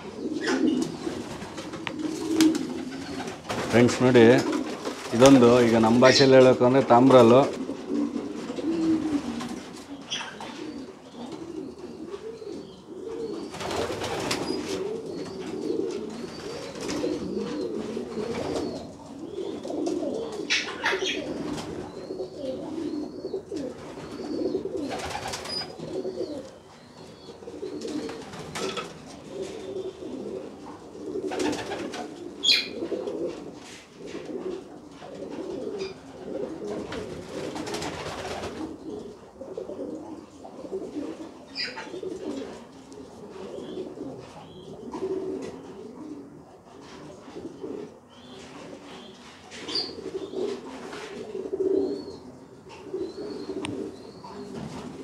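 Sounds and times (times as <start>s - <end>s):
pigeons cooing: 0.0s - 55.0s
rustles: 0.0s - 55.0s.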